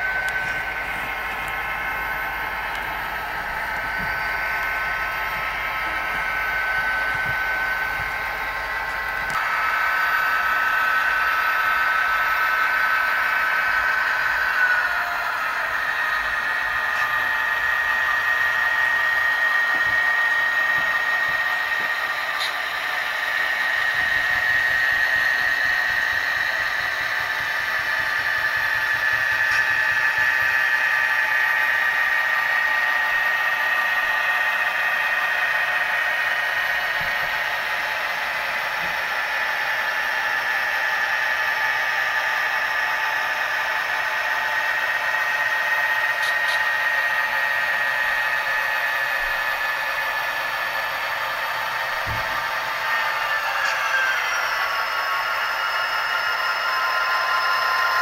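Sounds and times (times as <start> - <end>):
diesel engine sound from small speaker: 0.0 - 58.0
high-pitched whine: 0.0 - 58.0.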